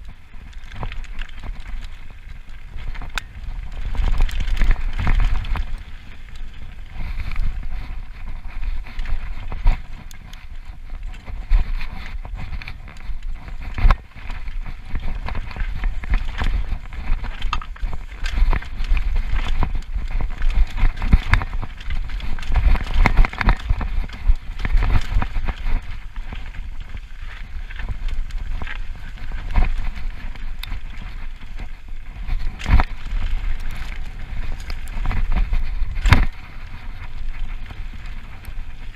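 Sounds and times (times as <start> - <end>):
bike rattling: 0.0 - 38.9
tyres rumbling over dirt: 0.0 - 38.9
wind buffeting microphone: 0.0 - 38.9.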